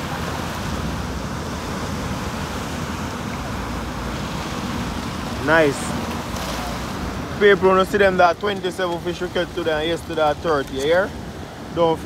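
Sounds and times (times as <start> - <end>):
surf breaking: 0.0 - 12.0.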